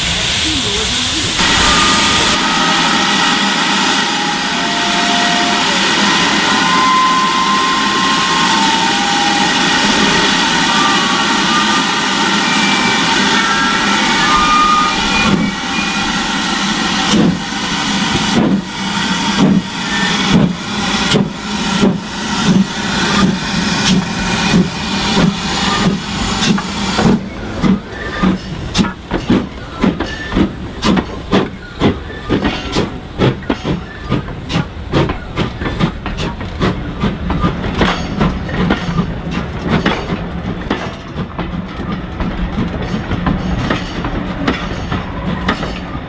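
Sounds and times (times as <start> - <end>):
steam locomotive exhaust beats: 0.0 - 46.0
steam locomotive hissing: 0.0 - 46.0.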